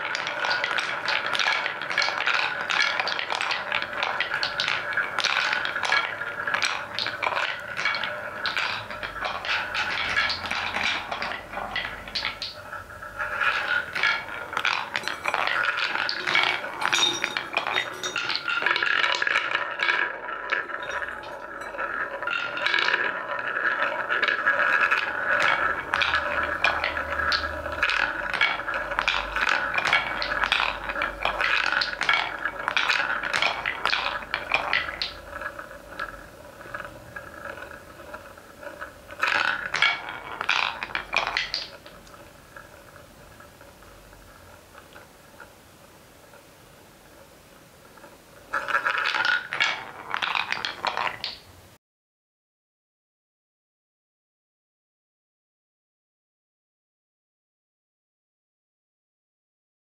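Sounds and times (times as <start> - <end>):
wooden balls clacking: 0.0 - 51.6
wooden balls rolling rumble: 0.0 - 51.8.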